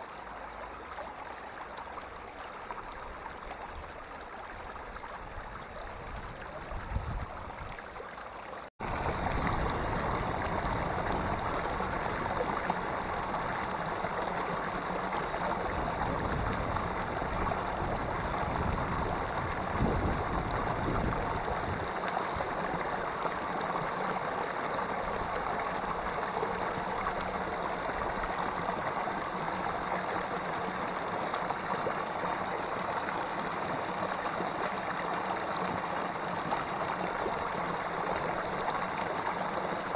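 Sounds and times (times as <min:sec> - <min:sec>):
stream water falling over rocks: 0:07.3 - 0:39.9.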